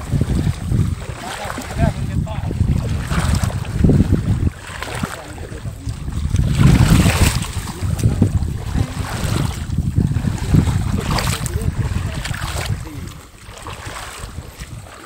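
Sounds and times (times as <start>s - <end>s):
water sloshing and splashing: 0.0s - 15.0s
wind buffeting microphone: 0.0s - 15.0s.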